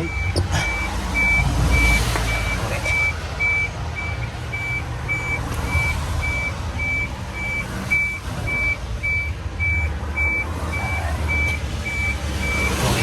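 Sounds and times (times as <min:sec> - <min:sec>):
electronic warning beeper: 0:00.0 - 0:13.0
truck engine running: 0:00.0 - 0:13.0.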